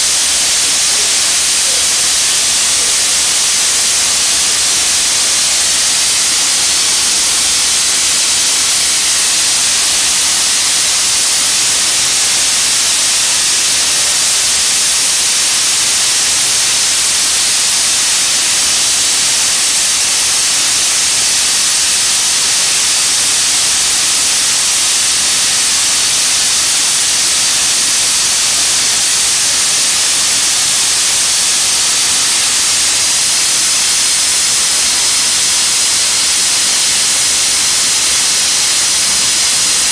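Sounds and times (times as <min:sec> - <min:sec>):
steam hissing from locomotive: 0:00.0 - 0:39.9.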